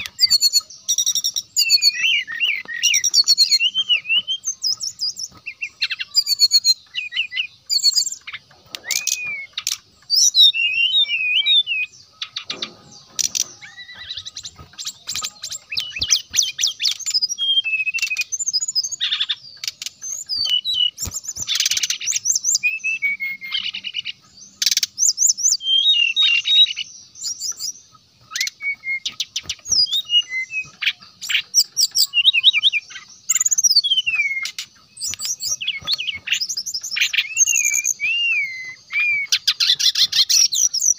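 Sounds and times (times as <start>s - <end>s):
flycatcher song trills and whistles: 0.0s - 40.9s.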